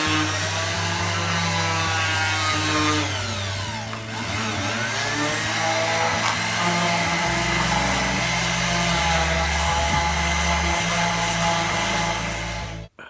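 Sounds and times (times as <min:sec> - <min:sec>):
electric power tool motor running: 0:00.0 - 0:12.9.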